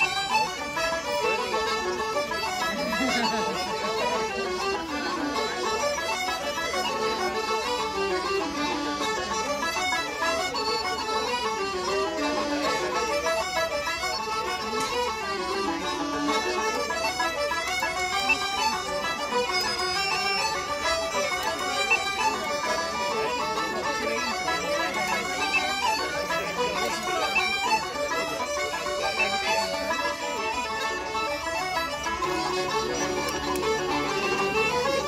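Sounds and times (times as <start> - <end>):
banjo: 0.0 - 35.0
button accordion: 0.0 - 35.0
fiddle: 0.0 - 35.0
uilleann pipes playing melody: 0.0 - 35.0.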